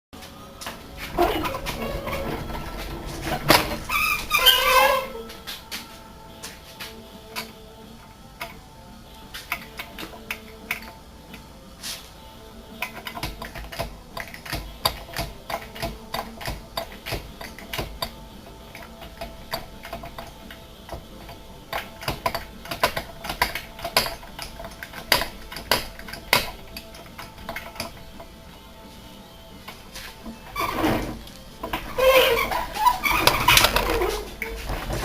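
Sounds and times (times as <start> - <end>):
music: 0.2 - 35.0.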